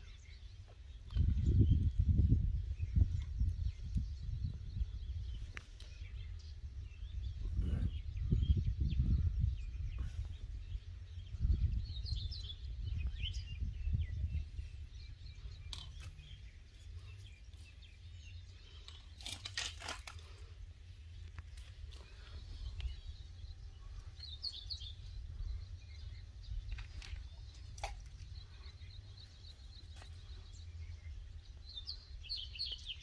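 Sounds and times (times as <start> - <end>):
small birds chirping: 0.0 - 33.0
wind rumbling on microphone: 0.0 - 33.0.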